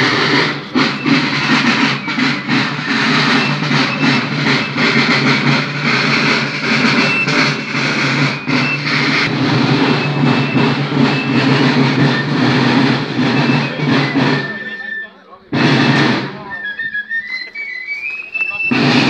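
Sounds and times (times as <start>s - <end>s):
drums beating: 0.0s - 19.0s
marching band playing: 0.0s - 19.0s.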